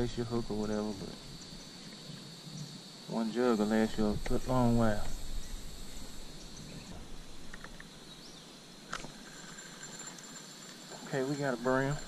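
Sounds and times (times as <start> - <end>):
faint chirps: 0.0 - 12.0
faint outdoor hiss: 0.0 - 12.0
high-pitched insect chorus: 0.0 - 12.0.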